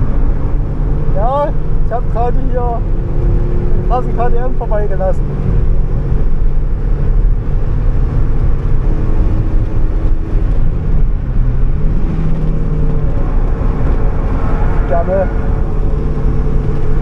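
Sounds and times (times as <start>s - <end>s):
car engine under load: 0.0s - 17.0s
road and wind noise: 0.0s - 17.0s.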